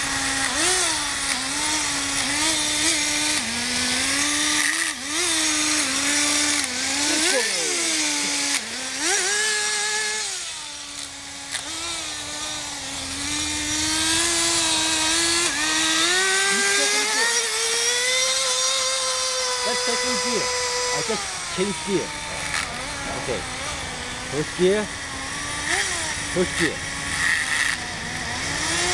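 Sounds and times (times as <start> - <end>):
model engine buzzing: 0.0 - 28.9.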